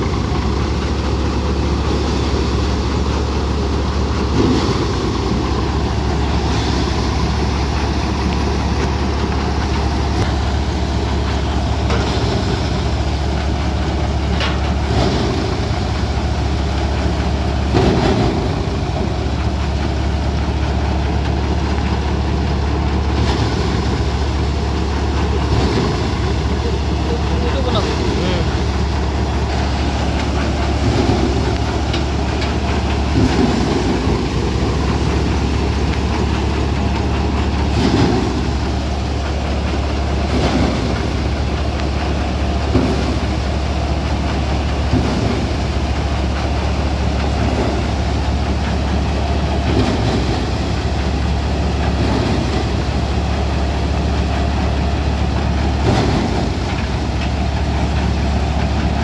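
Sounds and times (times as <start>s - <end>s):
threshing drum whirring: 0.0s - 59.0s
tractor engine drone: 0.0s - 59.0s.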